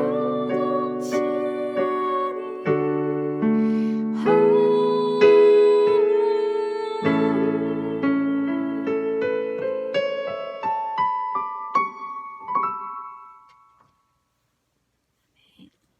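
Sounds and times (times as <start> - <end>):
piano playing: 0.0 - 13.8.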